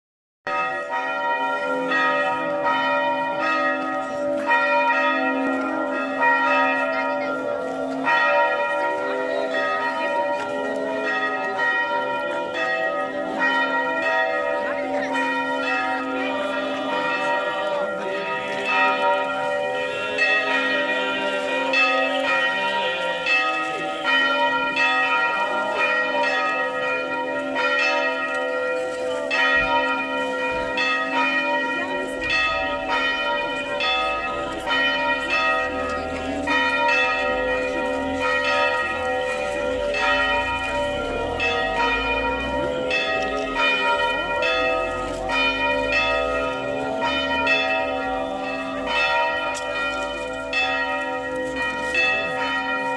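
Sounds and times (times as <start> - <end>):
church bells ringing: 0.4 - 52.9.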